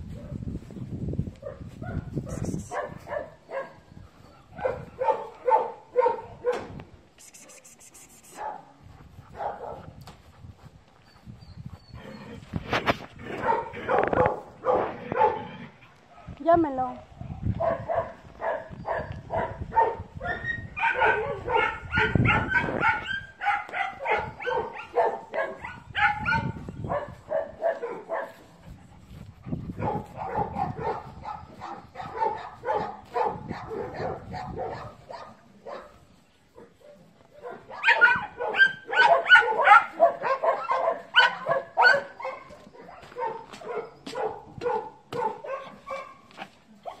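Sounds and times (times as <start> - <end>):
dogs barking: 0.0 - 0.4, 1.4 - 6.8, 8.3 - 10.0, 13.2 - 16.4, 17.4 - 28.8, 29.6 - 47.0.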